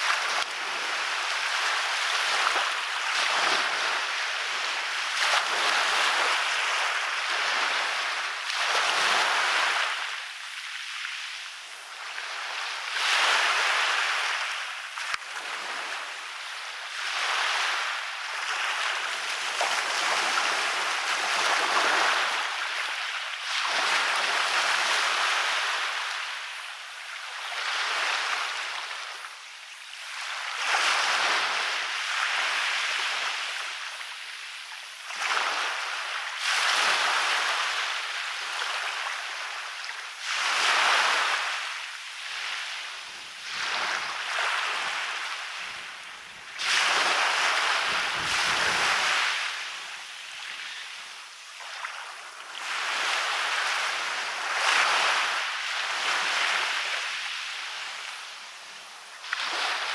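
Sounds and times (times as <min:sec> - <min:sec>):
waves breaking on a beach: 0:00.0 - 0:59.9.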